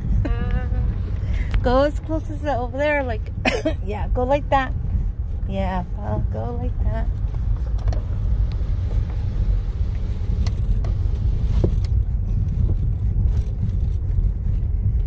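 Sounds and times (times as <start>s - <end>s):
car cabin engine and road rumble: 0.0s - 15.0s.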